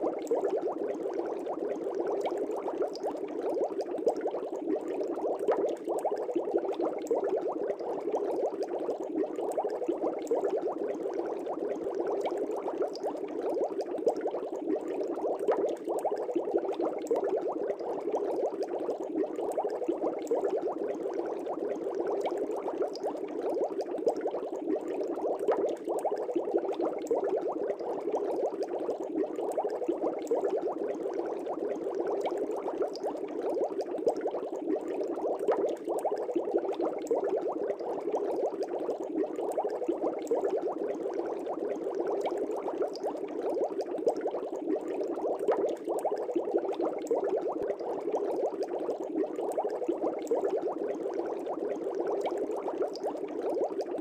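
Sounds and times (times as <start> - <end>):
air bubbles in fish tank: 0.0 - 54.0.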